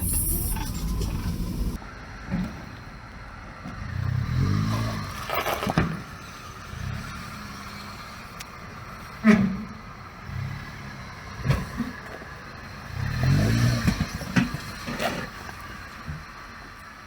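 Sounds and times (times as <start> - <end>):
all-terrain vehicle engine revving: 0.0 - 1.8, 3.5 - 16.8.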